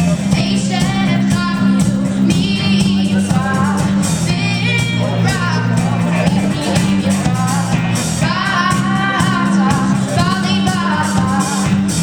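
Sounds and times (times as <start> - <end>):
lead singer singing: 0.0 - 12.0
live band playing: 0.0 - 12.0.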